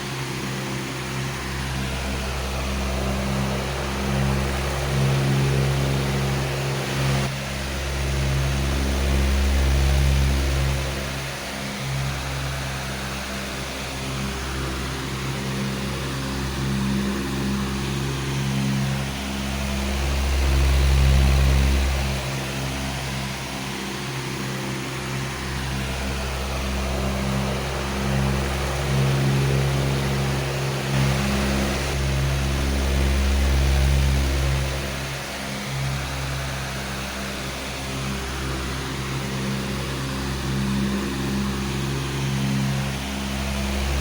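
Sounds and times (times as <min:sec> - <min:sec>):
electric fan running: 0:00.0 - 0:44.0.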